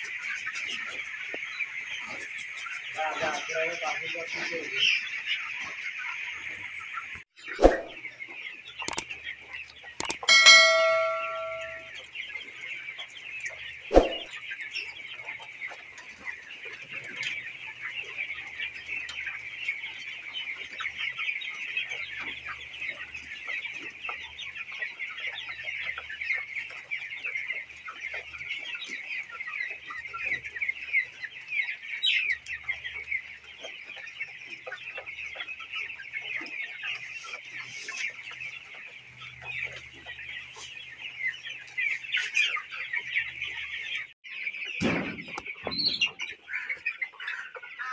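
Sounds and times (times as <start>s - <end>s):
chickens peeping and clucking: 0.0s - 47.9s.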